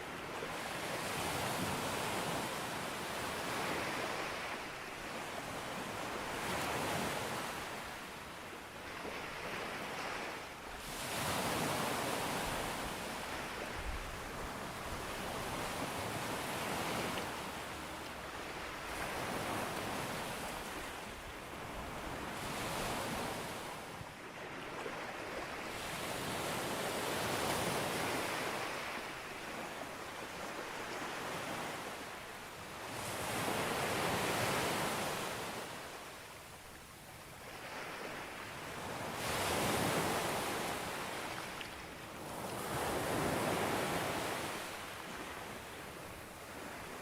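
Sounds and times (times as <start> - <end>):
waves breaking on a beach: 0.0 - 47.0.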